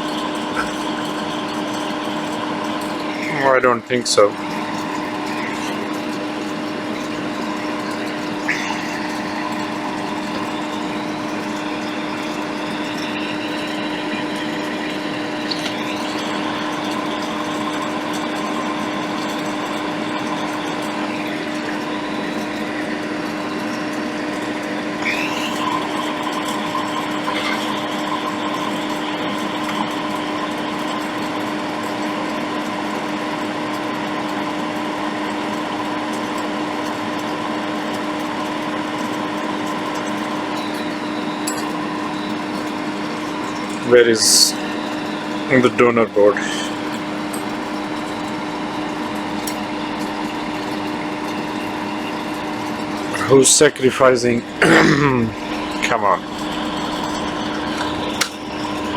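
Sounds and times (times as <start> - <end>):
fan motor humming: 0.0 - 58.9.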